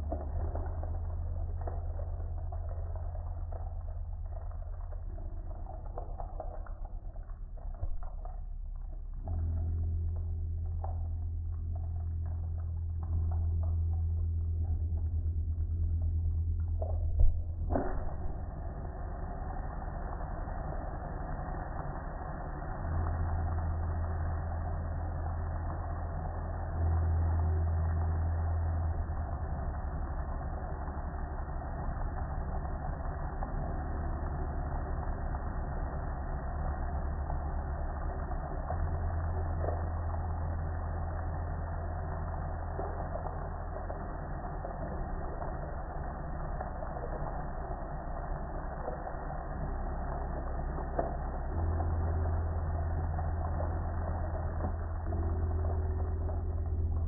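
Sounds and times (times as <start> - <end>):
low rumble: 0.0 - 57.0
water splashing over grill: 0.0 - 57.0.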